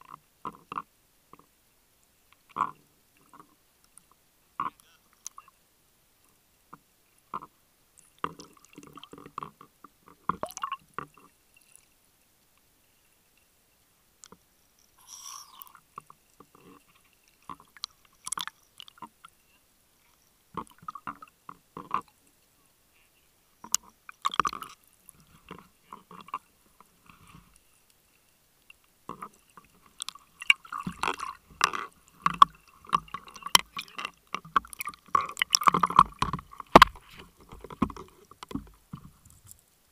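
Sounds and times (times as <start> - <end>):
muffled underwater clicks and knocks: 0.0 - 1.5, 2.3 - 5.5, 6.7 - 11.8, 14.2 - 15.0, 15.6 - 19.3, 20.1 - 22.2, 23.6 - 28.0, 28.6 - 39.7.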